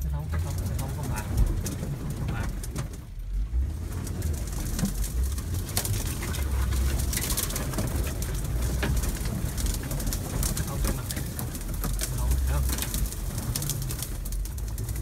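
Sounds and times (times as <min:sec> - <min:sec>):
car engine and road rumble: 0:00.0 - 0:15.0
branches scraping car body: 0:00.1 - 0:15.0.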